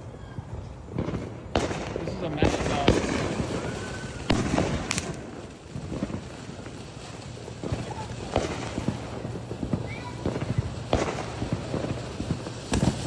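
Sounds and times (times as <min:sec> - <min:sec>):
firework pops and cracks: 0:00.2 - 0:13.0.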